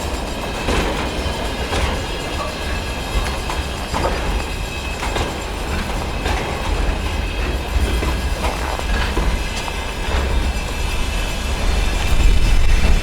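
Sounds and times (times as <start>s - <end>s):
heavy low train rumble: 0.0s - 13.0s
train wheels clacking: 0.0s - 13.0s.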